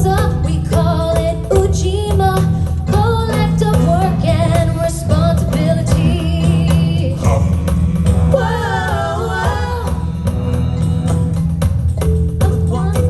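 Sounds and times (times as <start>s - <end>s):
upbeat music with singing: 0.0s - 13.0s.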